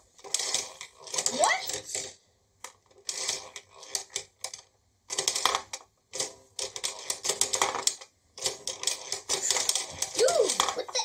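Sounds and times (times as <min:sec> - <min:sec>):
plastic toy clicking and rattling: 0:00.0 - 0:11.0.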